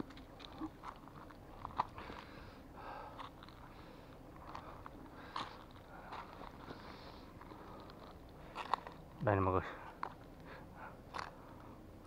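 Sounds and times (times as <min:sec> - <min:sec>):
footsteps crunching leaves and stones: 0:00.0 - 0:10.4.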